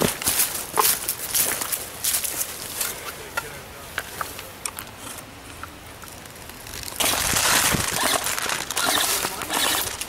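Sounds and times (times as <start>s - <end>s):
crunching and rustling: 0.0s - 10.0s.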